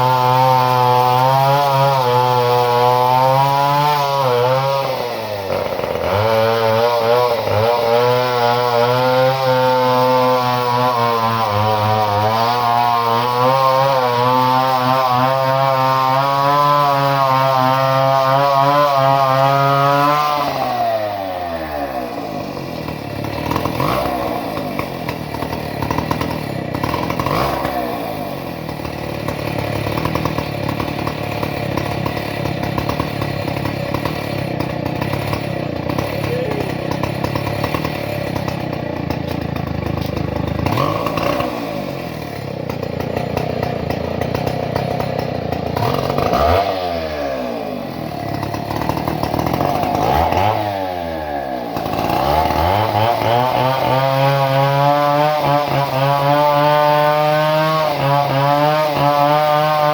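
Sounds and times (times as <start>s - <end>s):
two-stroke chainsaw engine: 0.0s - 59.9s.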